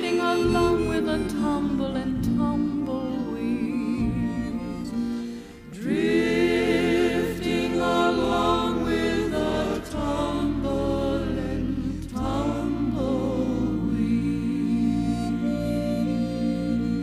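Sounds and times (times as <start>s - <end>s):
voices singing cowboy song: 0.0s - 17.0s.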